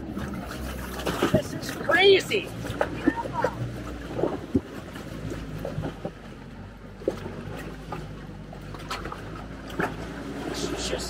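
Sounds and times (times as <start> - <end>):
diesel engine running: 0.0 - 11.0
vehicle pushing through ice and water: 0.0 - 11.0.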